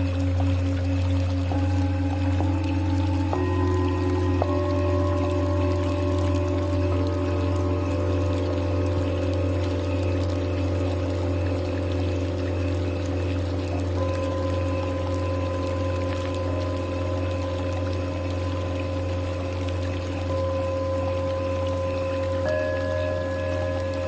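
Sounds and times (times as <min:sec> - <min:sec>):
singing bowls ringing: 0:00.0 - 0:24.0
steady low hum: 0:00.0 - 0:24.0.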